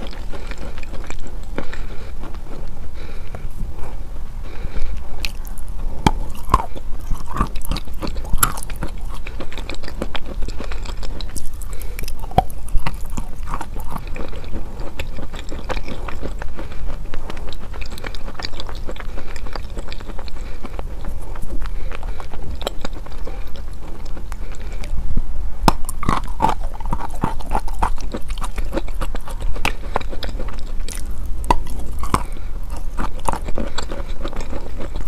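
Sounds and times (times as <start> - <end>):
chalk being chewed: 0.0 - 25.0, 25.6 - 35.0.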